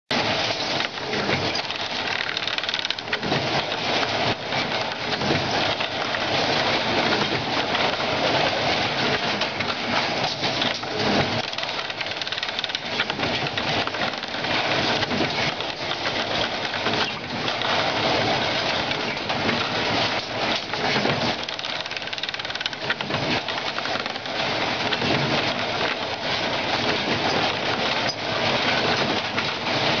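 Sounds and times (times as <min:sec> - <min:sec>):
cutting machine clattering: 0:00.1 - 0:30.0.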